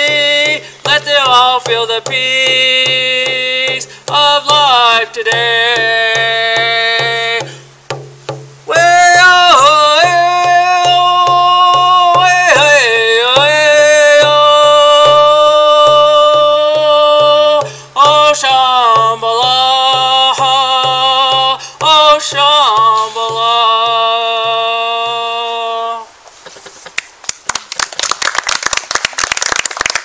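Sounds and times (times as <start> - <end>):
steady low drumbeat: 0.0 - 24.8
man singing wordless held notes: 0.0 - 26.2.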